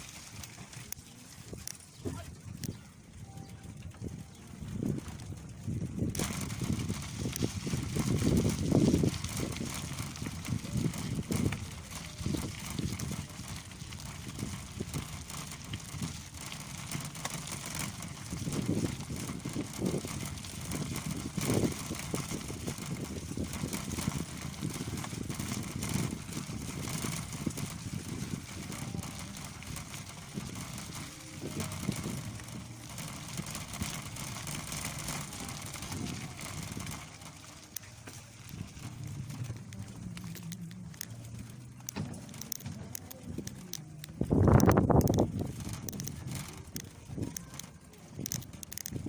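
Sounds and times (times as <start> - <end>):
bicycle knocks and rattles: 0.0 - 49.0
bicycle tyres and frame: 0.0 - 49.0
wind rumbling on microphone: 0.0 - 49.0.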